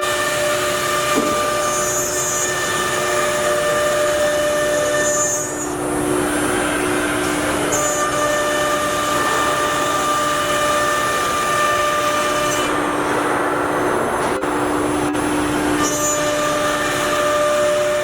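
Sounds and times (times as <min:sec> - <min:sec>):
router spindle whining and cutting: 0:00.0 - 0:13.1, 0:14.0 - 0:18.0.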